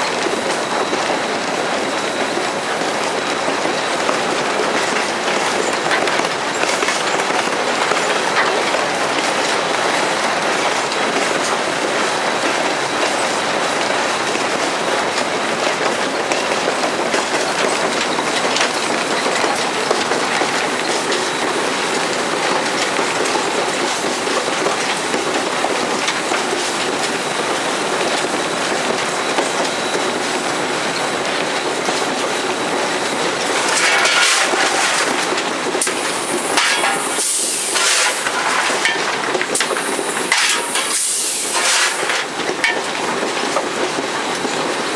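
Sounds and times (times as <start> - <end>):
steam locomotive cab din: 0.0 - 44.9
wheels clicking over rails: 0.0 - 44.9.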